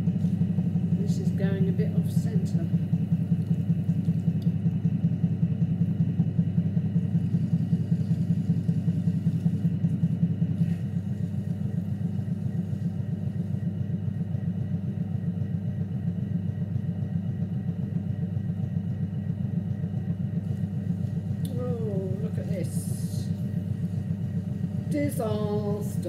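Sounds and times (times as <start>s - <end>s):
potter's wheel motor humming: 0.0s - 26.0s.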